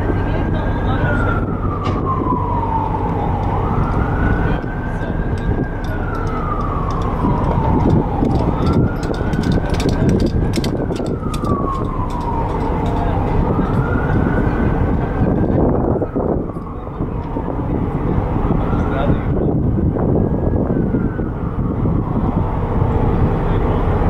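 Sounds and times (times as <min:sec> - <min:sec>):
siren wailing: 0:00.0 - 0:24.0
steady low rumble: 0:00.0 - 0:24.0.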